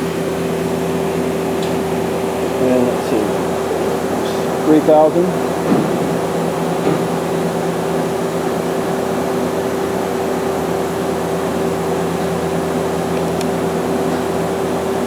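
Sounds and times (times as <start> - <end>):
lathe spindle hum: 0.0 - 15.0.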